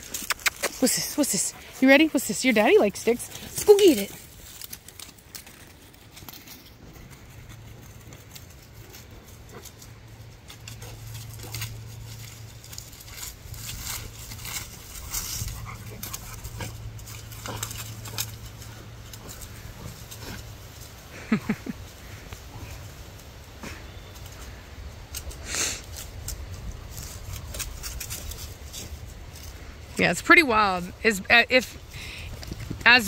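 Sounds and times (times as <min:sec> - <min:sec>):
dogs' paws scuffing and rustling: 0:00.0 - 0:33.0.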